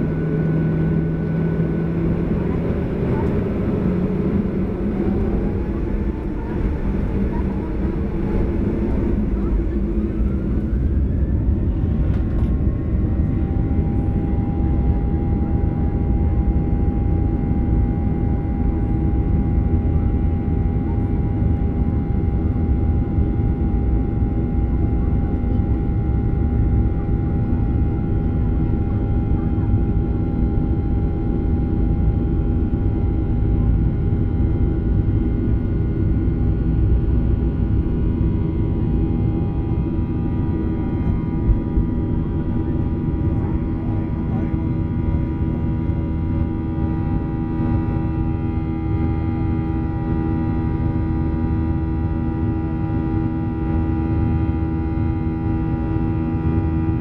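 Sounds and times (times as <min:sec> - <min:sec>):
jet engines whining: 0:00.0 - 0:21.9, 0:23.2 - 0:57.0.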